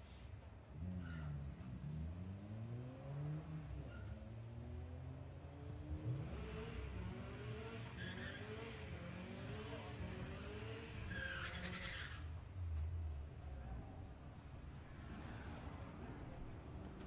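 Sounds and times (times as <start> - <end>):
car engine accelerating: 0.7 - 17.0.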